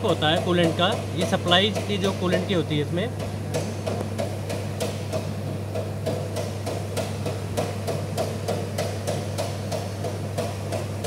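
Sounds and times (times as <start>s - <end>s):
hammer-like knocking: 0.0s - 11.0s
steady low hum: 0.0s - 11.0s.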